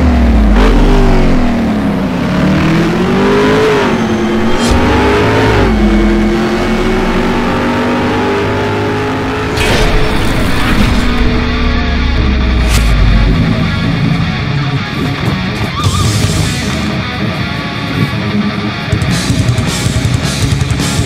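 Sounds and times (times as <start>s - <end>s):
engine revving: 0.0s - 16.9s.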